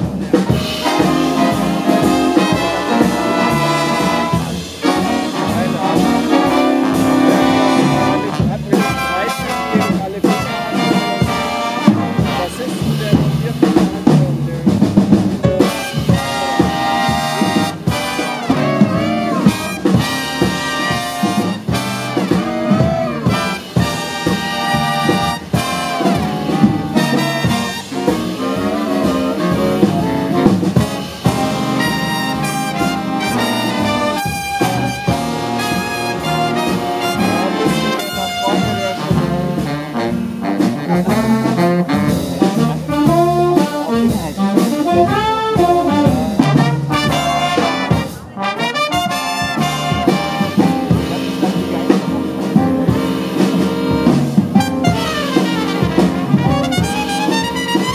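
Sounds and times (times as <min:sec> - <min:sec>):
jazz big band playing: 0:00.0 - 0:57.9
upright bass: 0:00.0 - 0:57.9.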